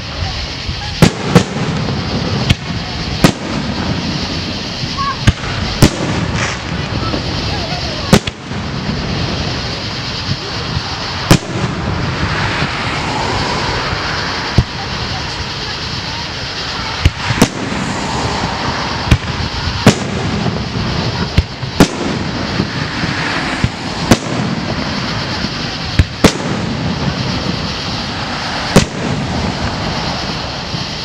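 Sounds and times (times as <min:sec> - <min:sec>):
fireworks bursting with bangs: 0:00.0 - 0:31.0
steady background noise: 0:00.0 - 0:31.0.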